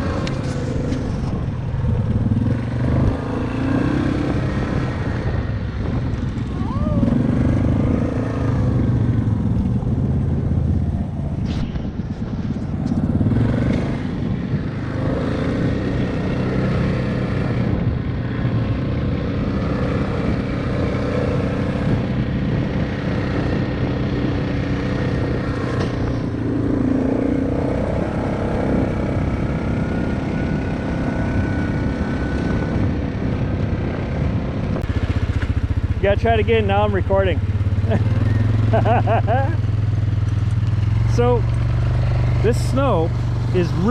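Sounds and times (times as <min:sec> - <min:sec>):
engine revving while riding: 0:00.0 - 0:43.9.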